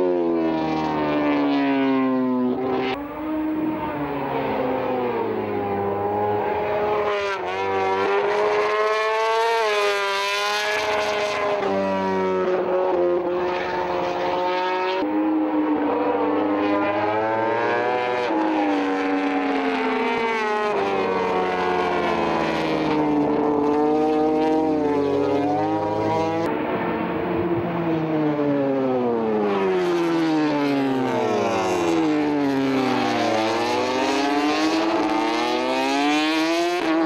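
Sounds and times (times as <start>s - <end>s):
racing motorcycle engine revving: 0.8s - 37.0s.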